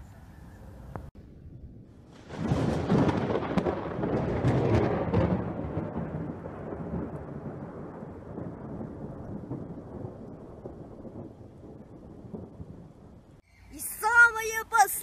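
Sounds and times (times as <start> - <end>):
thunder rumbling: 1.2 - 13.4.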